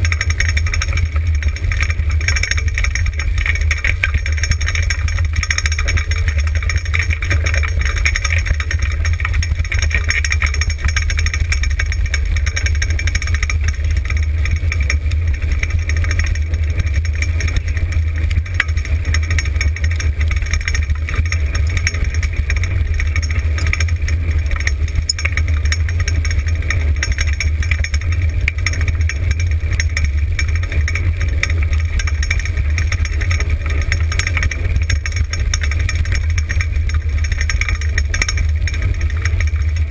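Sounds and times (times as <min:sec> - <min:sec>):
cart rattling over dirt trail: 0:00.0 - 0:39.9.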